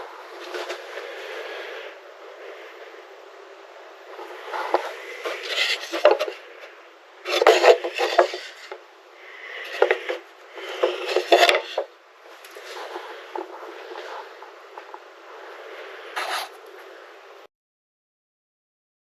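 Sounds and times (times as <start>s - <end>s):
scraping and rubbing: 0.0s - 2.7s, 4.1s - 16.9s.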